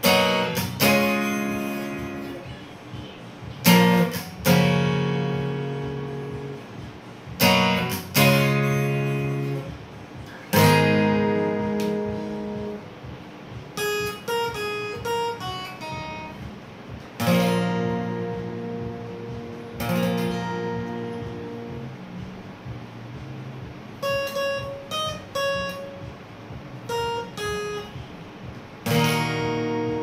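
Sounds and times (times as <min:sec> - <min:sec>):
acoustic guitar strummed chords: 0:00.0 - 0:30.0
picked guitar notes: 0:00.0 - 0:30.0.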